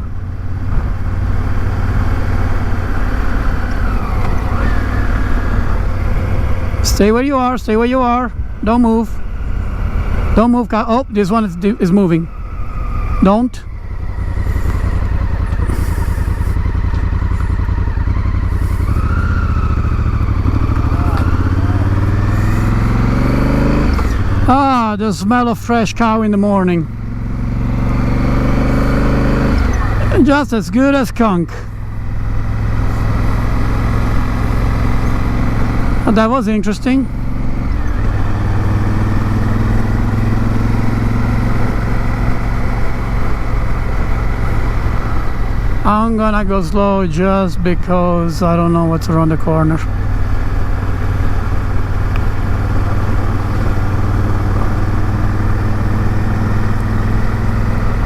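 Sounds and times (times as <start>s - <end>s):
constant rushing noise: 0.0s - 58.0s
motorcycle engine running: 0.0s - 58.0s.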